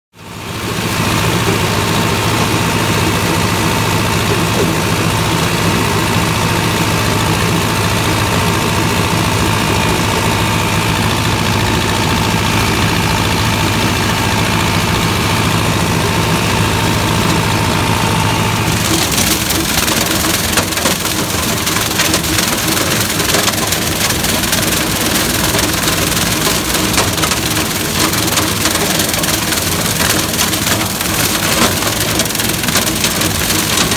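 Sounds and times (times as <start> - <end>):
chopper clatter shredding stalks: 0.2 - 33.9
tractor engine running under load: 0.2 - 33.9.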